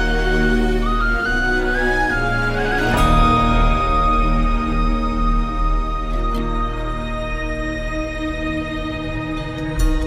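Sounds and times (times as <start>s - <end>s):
flute-like melody: 0.0s - 10.0s.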